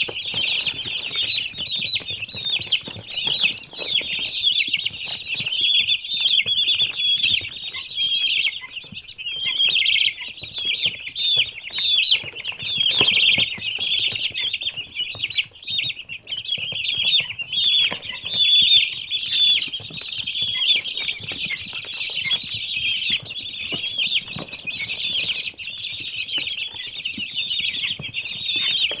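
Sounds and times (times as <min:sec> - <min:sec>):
baby chicks peeping: 0:00.0 - 0:29.0.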